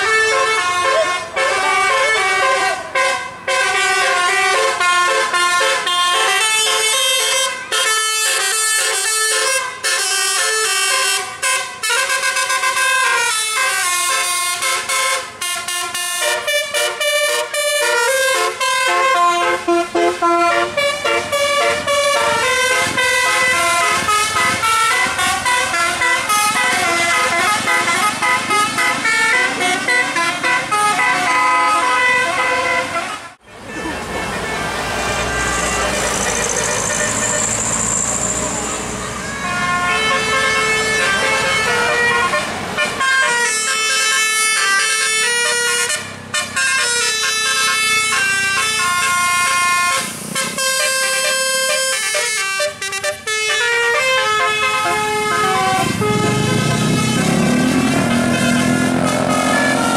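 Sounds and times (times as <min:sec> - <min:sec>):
multi-tone air horns playing melody: 0:00.0 - 0:59.9.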